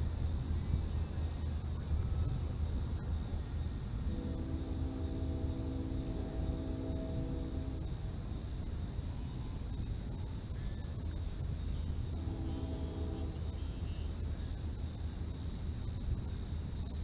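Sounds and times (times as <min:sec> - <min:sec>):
insects chirping: 0:00.2 - 0:17.0.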